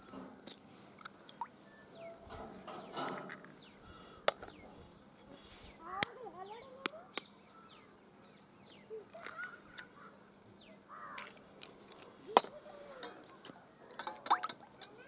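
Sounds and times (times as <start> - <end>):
birds chirping: 1.2 - 15.0.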